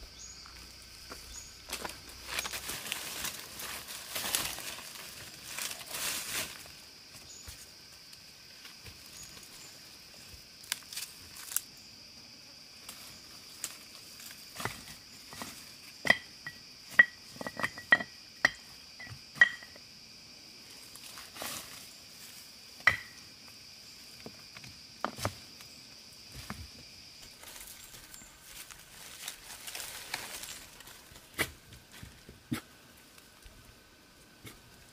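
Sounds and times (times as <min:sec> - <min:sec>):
insects droning: 0:00.0 - 0:34.9.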